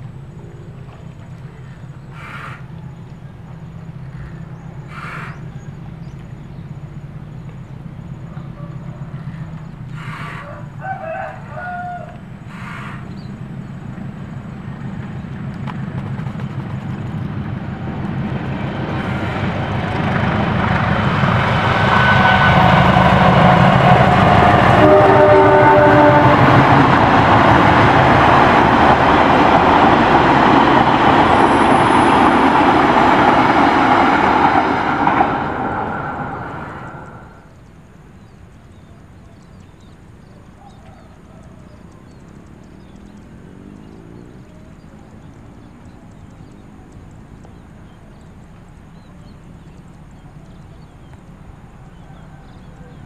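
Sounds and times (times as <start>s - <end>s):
diesel locomotive rumbling: 0.0s - 53.0s
train passing at speed: 0.0s - 53.0s.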